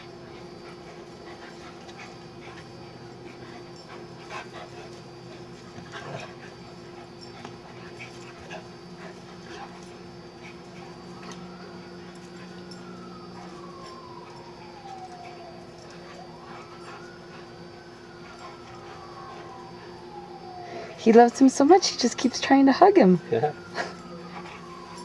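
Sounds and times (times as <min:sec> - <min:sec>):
dogs playing: 0:00.0 - 0:25.0.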